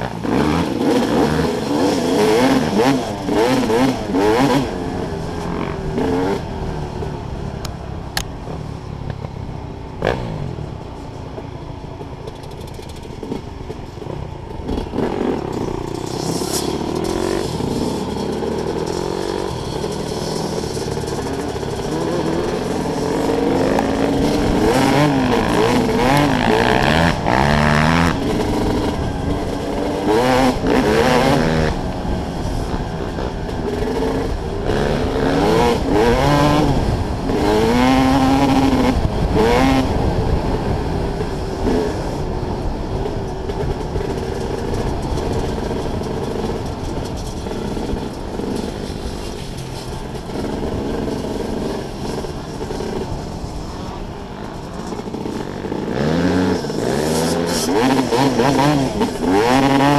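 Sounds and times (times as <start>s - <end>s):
dirt bike engine revving: 0.0s - 7.2s, 12.3s - 59.9s.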